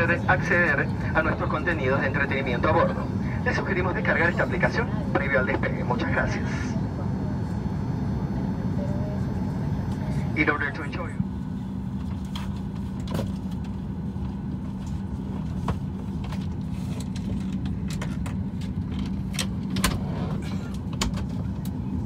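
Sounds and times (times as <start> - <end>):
aircraft cabin hum: 0.0 - 22.0.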